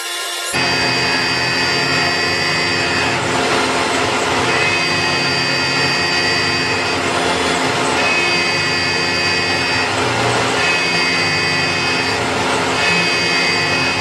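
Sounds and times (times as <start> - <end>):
high whine: 0.0 - 14.0
machine tool running: 0.0 - 14.0.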